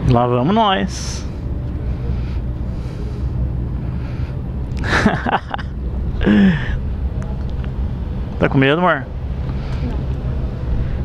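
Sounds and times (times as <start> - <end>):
tugboat engine drone: 0.0 - 11.0
wind and water hiss: 0.4 - 11.0.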